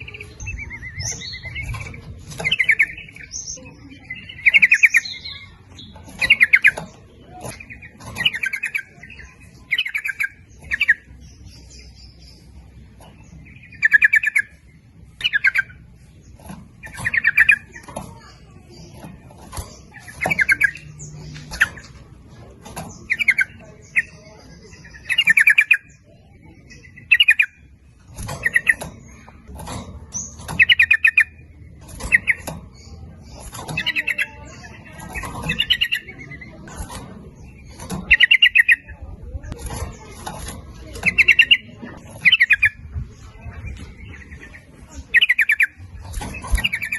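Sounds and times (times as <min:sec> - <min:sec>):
bird singing bubbly chattering phrases: 0:00.0 - 0:46.9.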